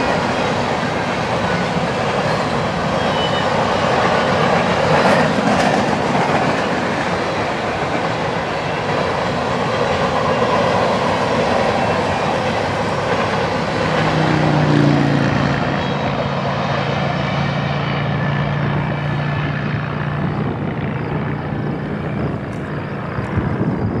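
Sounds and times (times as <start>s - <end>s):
freight train rolling on rails: 0.0s - 24.0s.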